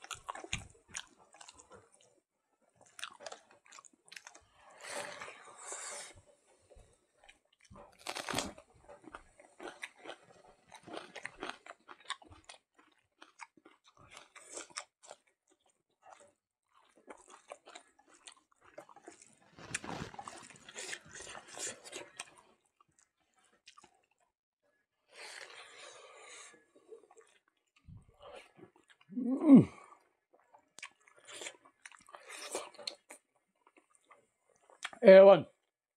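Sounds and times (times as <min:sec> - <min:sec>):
person chewing food: 0:00.0 - 0:24.3, 0:25.2 - 0:35.0.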